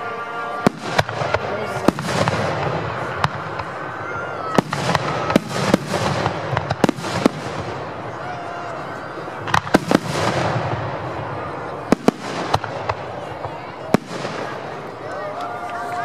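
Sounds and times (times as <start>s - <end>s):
fireworks bursting: 0.0s - 16.0s
steady din of noise: 0.0s - 16.0s.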